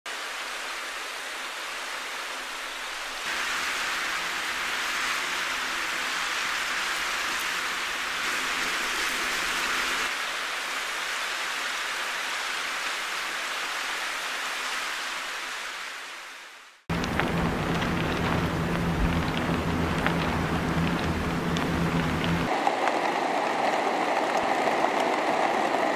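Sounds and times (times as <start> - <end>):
rain-like pattering and whirring: 0.1 - 15.9, 16.5 - 25.9.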